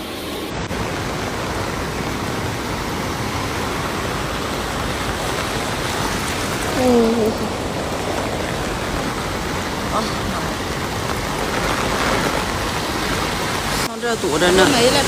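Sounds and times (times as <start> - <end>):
heavy rain: 0.0 - 15.0
running floodwater: 0.0 - 15.0.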